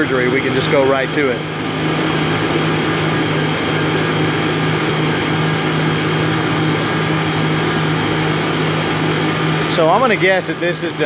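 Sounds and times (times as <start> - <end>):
jet pump churning water: 0.0 - 11.0
jet ski engine running: 0.0 - 11.0.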